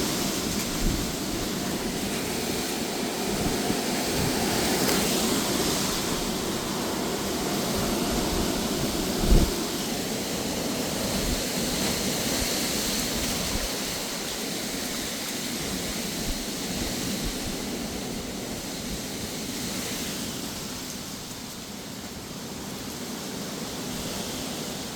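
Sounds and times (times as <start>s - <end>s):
gusty wind with rain: 0.0s - 24.9s.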